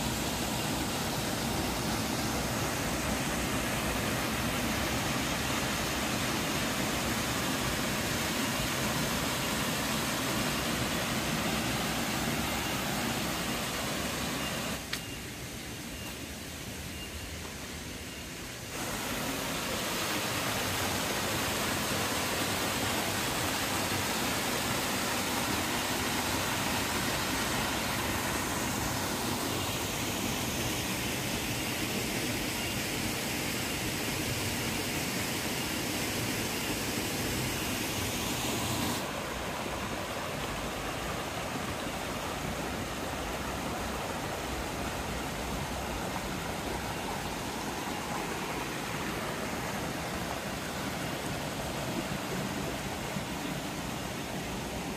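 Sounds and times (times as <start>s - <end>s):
waterfall rushing: 0.0s - 14.8s, 18.7s - 54.9s.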